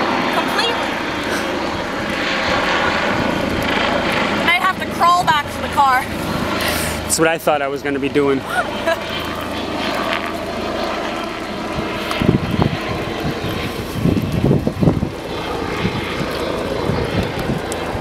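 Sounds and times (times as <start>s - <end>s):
low rumbles: 0.0s - 18.0s
steady engine drone: 0.0s - 18.0s.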